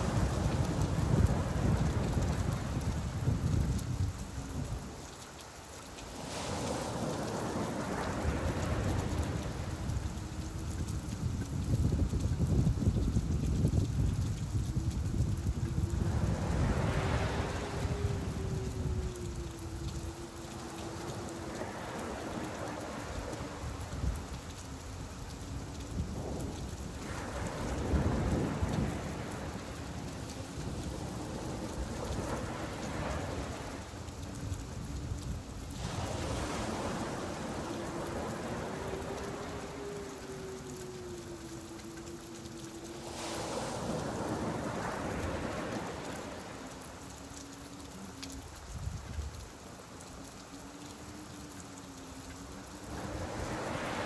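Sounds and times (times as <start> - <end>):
sea surf waves: 0.0 - 54.0
steady rain falling: 0.0 - 54.0.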